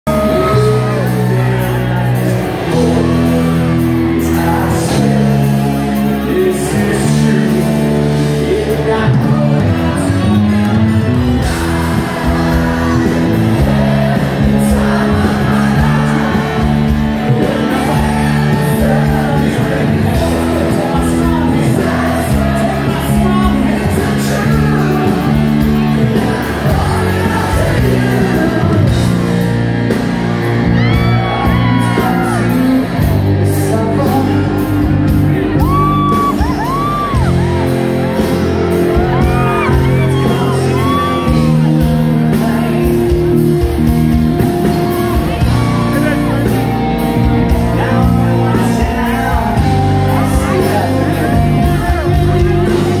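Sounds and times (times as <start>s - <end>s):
crowd shouting and whooping: 0.0s - 53.0s
live rock band playing: 0.0s - 53.0s.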